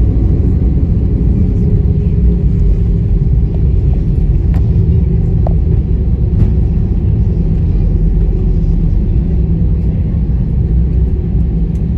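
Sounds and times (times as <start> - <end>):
aircraft engines and wheels rumble: 0.0 - 11.9.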